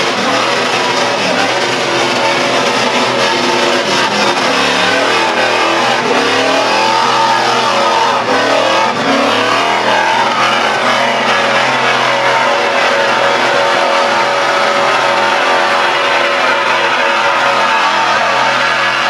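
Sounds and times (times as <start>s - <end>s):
car engine revving high: 0.0s - 19.0s
tyres spinning on track: 0.0s - 19.0s.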